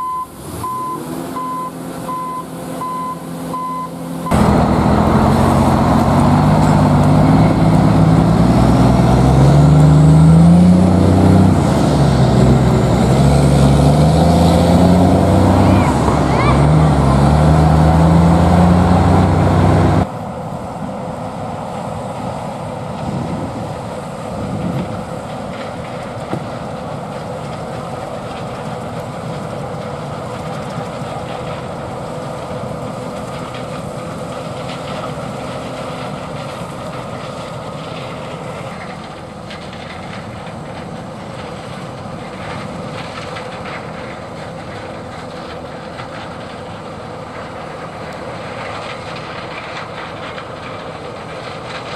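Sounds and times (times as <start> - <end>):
combine harvester humming: 0.0 - 51.9
truck diesel engine accelerating: 0.0 - 51.9.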